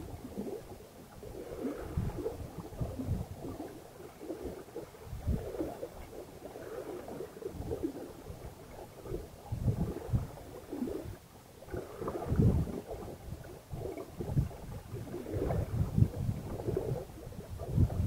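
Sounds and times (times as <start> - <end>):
water rushing along hull: 0.0 - 18.0
wind buffeting microphone: 1.2 - 18.0.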